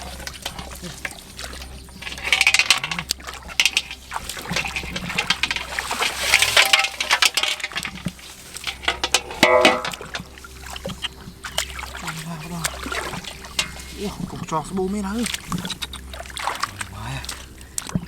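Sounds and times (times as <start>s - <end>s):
splashing in shallow water: 0.0s - 18.0s.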